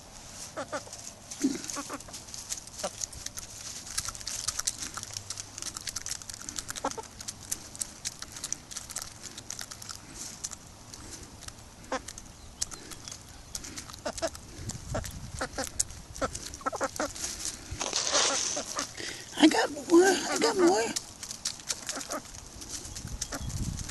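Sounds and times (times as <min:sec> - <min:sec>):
chickens pecking: 0:00.0 - 0:23.9
chickens clucking: 0:00.5 - 0:02.2, 0:02.8 - 0:23.8.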